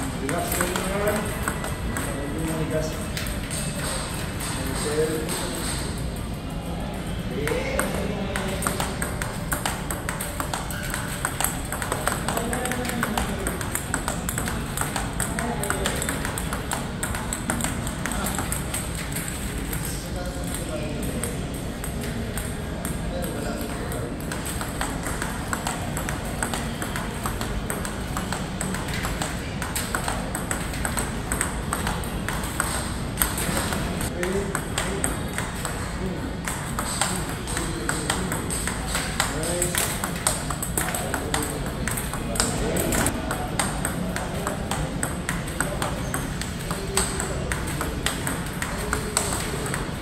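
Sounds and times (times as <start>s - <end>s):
ping pong ball clicking: 0.0s - 50.0s.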